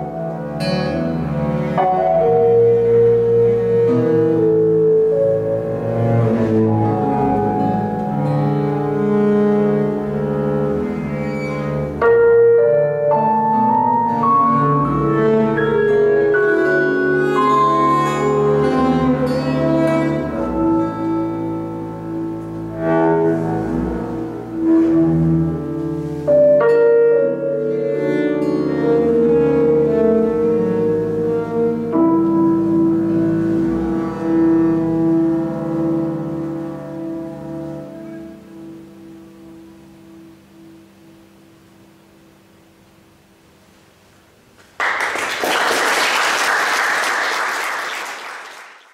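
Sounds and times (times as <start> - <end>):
bowed cello notes: 0.0 - 42.3
piano chords: 0.0 - 45.7.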